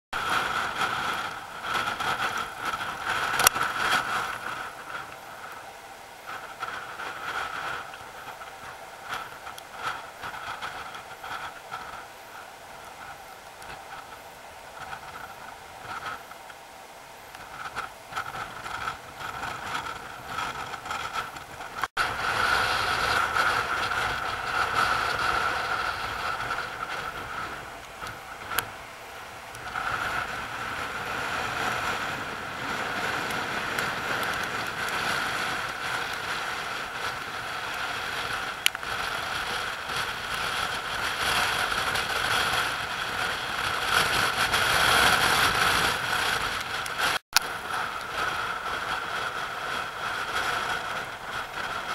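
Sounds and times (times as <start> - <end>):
sea water swirling over rocks: 0.2 - 51.9.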